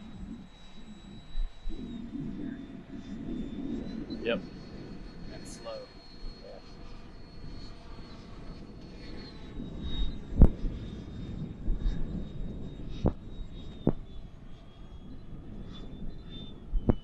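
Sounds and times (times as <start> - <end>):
electric ducted-fan jet whine: 0.0 - 17.0
wind rumble on microphone: 0.0 - 17.0.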